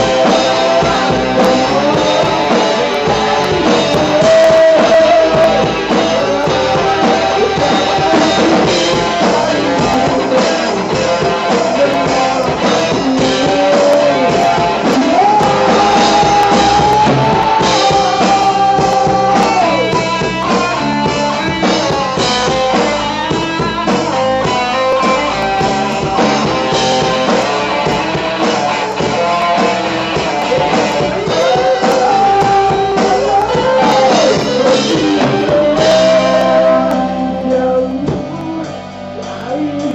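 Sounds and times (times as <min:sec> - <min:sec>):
lead guitar bending notes: 0:00.0 - 0:39.9
rock band playing: 0:00.0 - 0:39.9.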